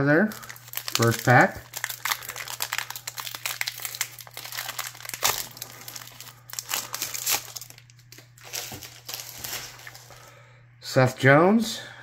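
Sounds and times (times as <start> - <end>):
wrapper crinkling and tearing: 0.3 - 10.2.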